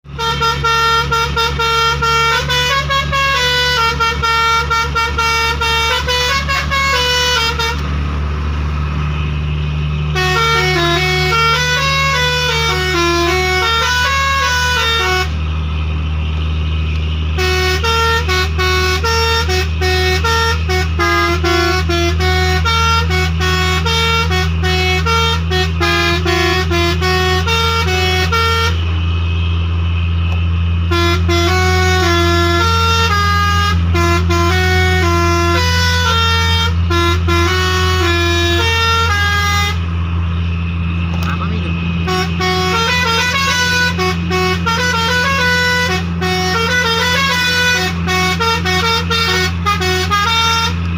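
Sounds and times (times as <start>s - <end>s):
musical air horn playing a tune: 0.1s - 7.8s, 10.0s - 15.4s, 17.3s - 28.9s, 30.8s - 39.9s, 42.0s - 50.9s
steady low hum: 0.2s - 50.9s.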